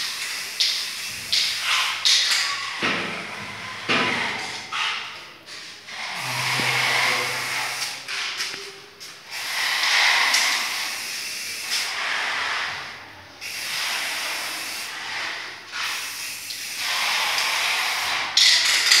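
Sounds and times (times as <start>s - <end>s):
spray paint can hissing: 0.0s - 2.5s, 5.6s - 8.6s, 9.2s - 19.0s.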